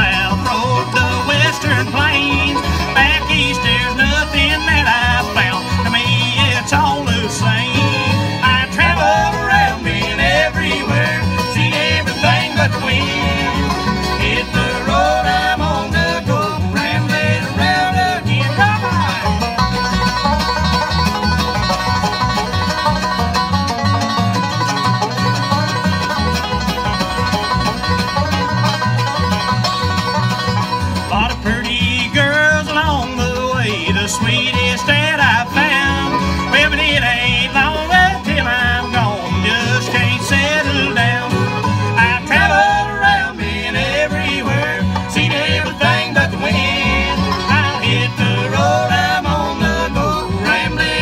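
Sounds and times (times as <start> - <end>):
acoustic guitar: 0.0 - 51.0
banjo: 0.0 - 51.0
fiddle: 0.0 - 51.0
upright bass: 0.0 - 51.0.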